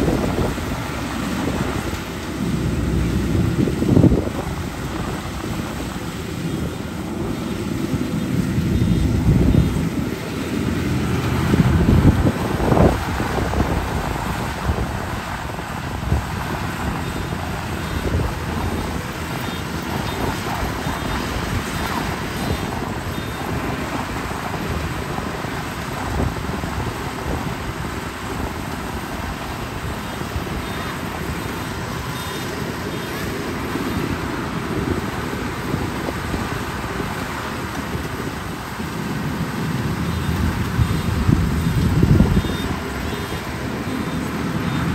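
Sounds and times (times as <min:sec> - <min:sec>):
combine harvester drone: 0:00.0 - 0:44.9
wind buffeting microphone: 0:00.0 - 0:44.9.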